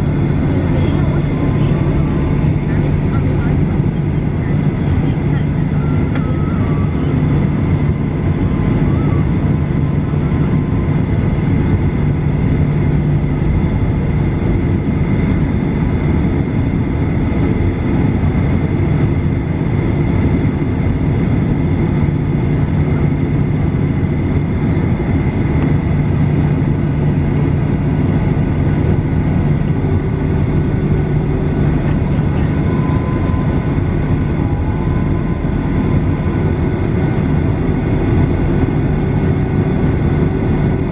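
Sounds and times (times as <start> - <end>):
jet engines idling rumble: 0.0 - 40.9.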